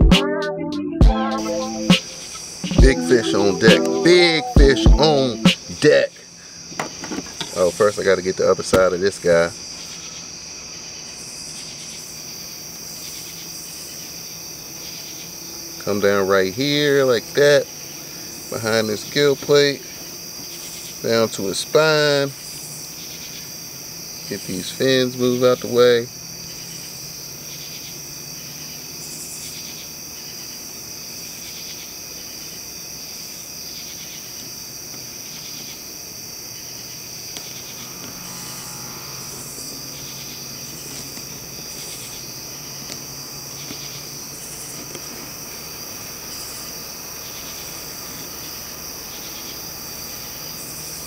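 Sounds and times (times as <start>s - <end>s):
crickets and insects chorusing: 1.5s - 51.0s.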